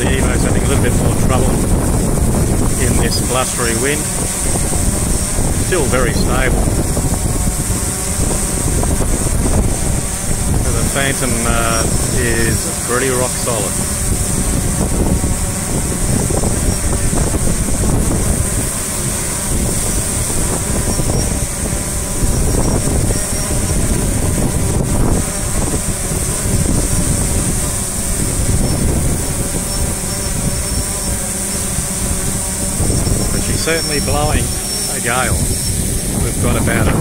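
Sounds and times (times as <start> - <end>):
drone propellers humming: 0.0 - 37.0
wind buffeting microphone: 0.0 - 37.0.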